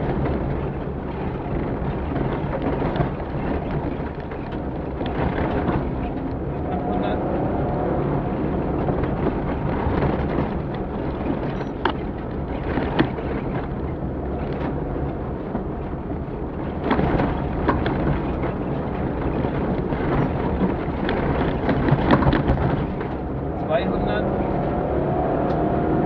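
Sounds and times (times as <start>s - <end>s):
knocks and rattles from bumps: 0.0s - 24.8s
engine rumble: 0.0s - 26.0s
tyres on loose ground: 0.0s - 26.0s.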